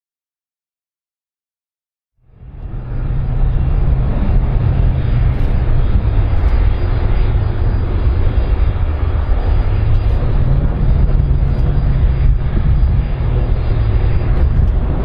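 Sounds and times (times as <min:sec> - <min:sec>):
airplane engine rumble: 0:02.2 - 0:15.0.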